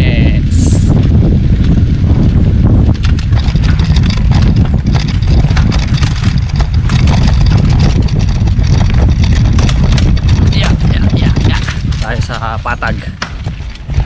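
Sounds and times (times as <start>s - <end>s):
wind rumble on microphone: 0.0s - 14.0s
bike rattles and clicks: 0.9s - 14.0s.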